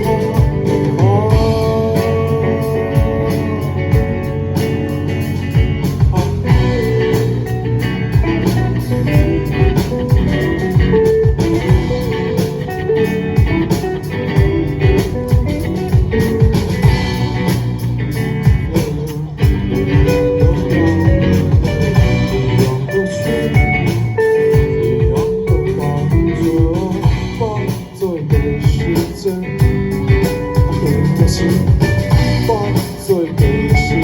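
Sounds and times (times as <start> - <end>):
bass guitar: 0.0 - 34.0
drum kit beat: 0.0 - 34.0
guitars: 0.0 - 34.0.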